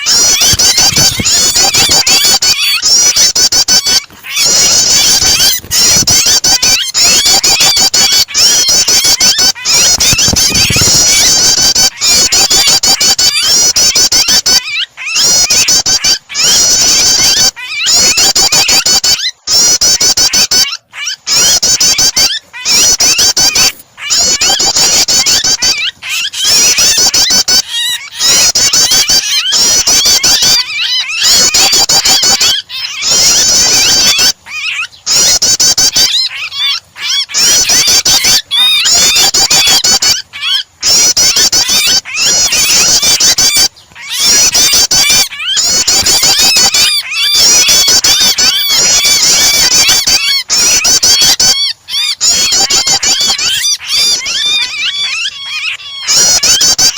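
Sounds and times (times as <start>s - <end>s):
rapid high bird chirping: 0.0s - 56.9s
shrill bird distress cries: 0.0s - 56.9s.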